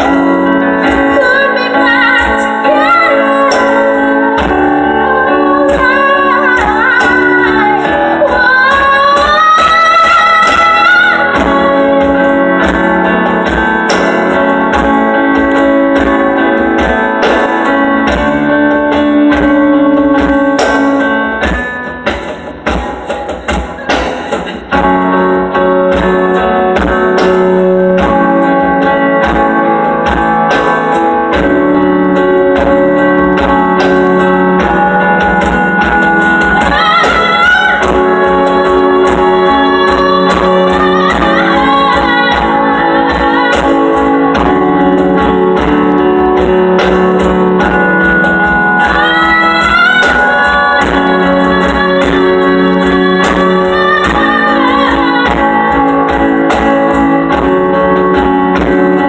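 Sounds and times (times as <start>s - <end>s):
live band instrumental music: 0.0s - 59.0s.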